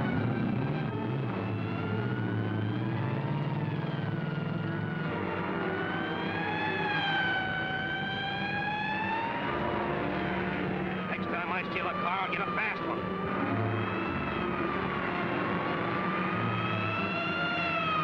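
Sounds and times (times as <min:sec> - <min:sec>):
car engines running: 0:00.0 - 0:18.0
police siren wailing: 0:00.0 - 0:18.0.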